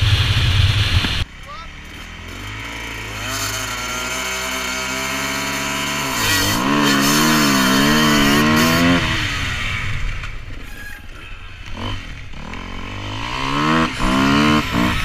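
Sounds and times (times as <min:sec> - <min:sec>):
dirt bike engine revving: 0:00.0 - 0:10.4, 0:11.6 - 0:15.0.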